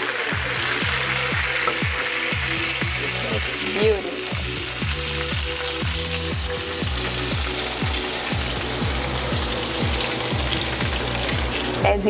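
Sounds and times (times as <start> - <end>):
chicken sizzling in skillet: 0.0 - 12.0
background music with deep drums: 0.1 - 12.0.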